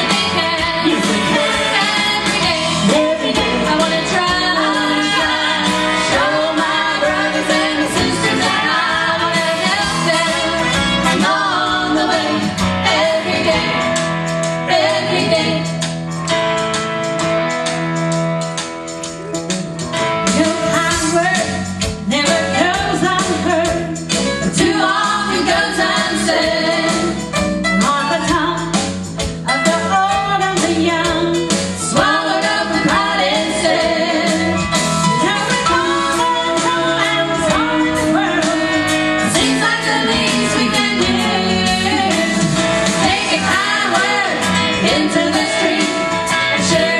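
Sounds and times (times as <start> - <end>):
gospel group singing: 0.0 - 16.0, 22.2 - 27.3, 29.5 - 46.9
instrumental accompaniment with beat: 0.0 - 46.9.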